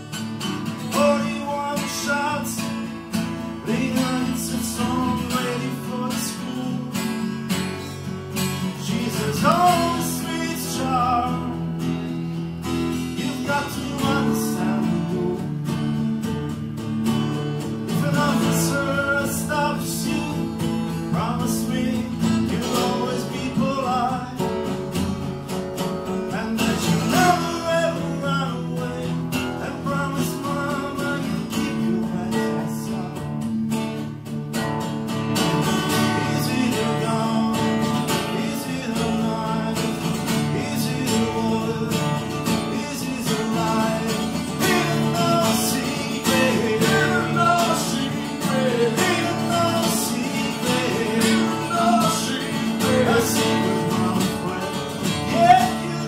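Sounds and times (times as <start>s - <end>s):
acoustic guitars strumming chords: 0.0s - 56.0s.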